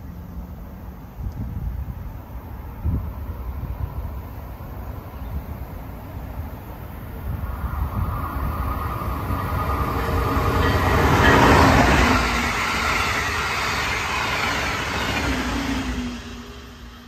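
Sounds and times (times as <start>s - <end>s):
train wheels rushing on rails: 0.3s - 17.0s.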